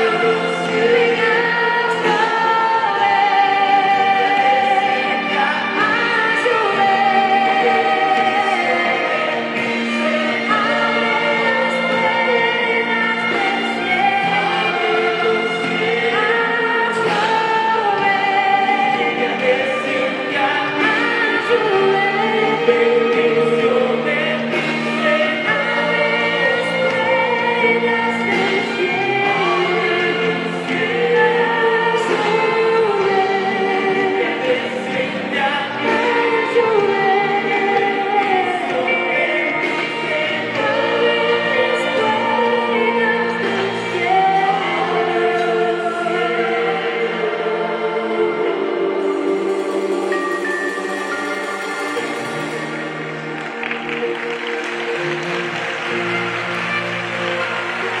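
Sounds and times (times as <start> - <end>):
group singing in chorus: 0.0 - 58.0
instrumental accompaniment: 0.0 - 58.0.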